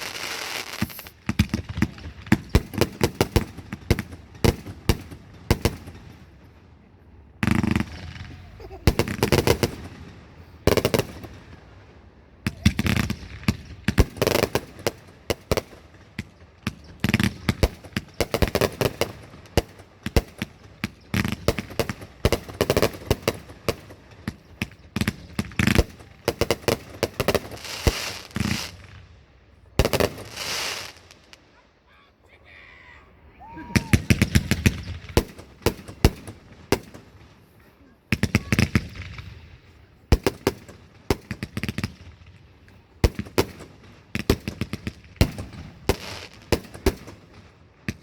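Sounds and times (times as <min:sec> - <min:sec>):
fireworks bangs and crackling: 0:00.0 - 0:32.6, 0:33.3 - 0:48.0.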